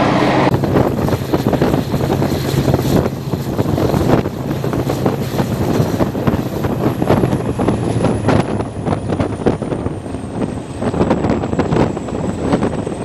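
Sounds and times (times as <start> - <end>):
steady low hum: 0.0 - 13.0
train coaches rumbling on track: 0.0 - 13.0
wind buffeting microphone: 0.0 - 13.0.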